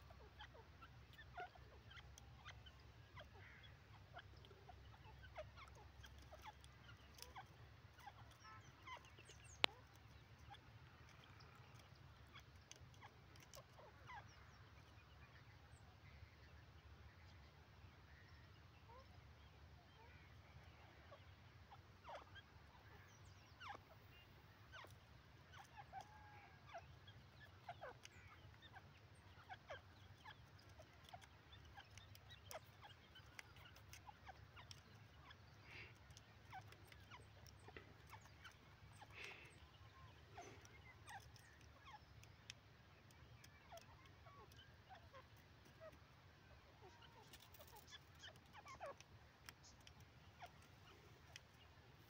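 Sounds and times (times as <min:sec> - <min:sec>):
faint bird chirps and clucks: 0:00.0 - 0:52.0.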